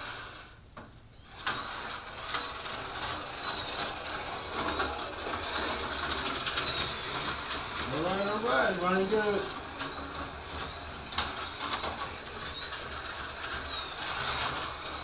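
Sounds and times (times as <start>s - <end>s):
slot car electric motor whining: 0.0s - 15.0s.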